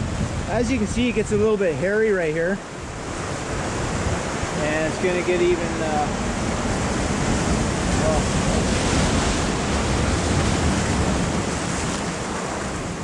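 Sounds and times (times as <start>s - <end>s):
ocean waves breaking on shore: 0.0s - 13.0s
wind on microphone: 0.0s - 13.0s.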